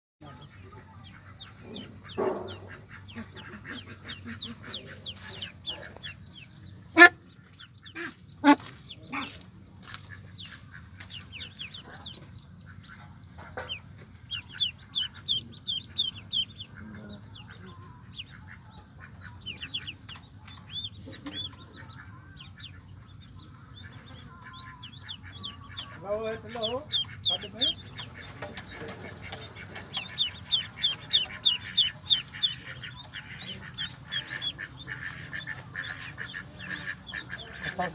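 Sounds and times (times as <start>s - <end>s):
ducklings peeping: 0.2s - 37.9s
ducks calling: 0.2s - 37.9s
steady low hum: 0.2s - 37.9s.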